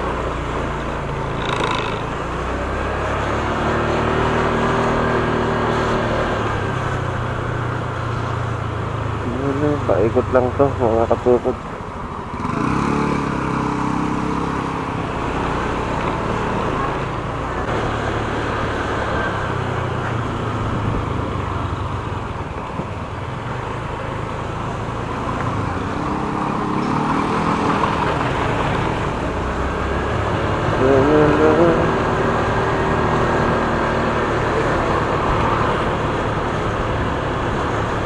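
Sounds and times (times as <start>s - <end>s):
motorcycle engine running: 0.0s - 11.6s, 12.2s - 38.0s
traffic: 0.0s - 38.0s.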